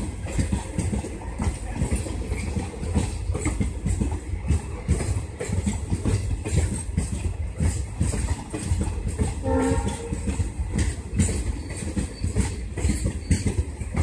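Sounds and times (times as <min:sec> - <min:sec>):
train coaches rumbling past: 0:00.0 - 0:14.0
wheel clacks over rail joints: 0:00.0 - 0:14.0.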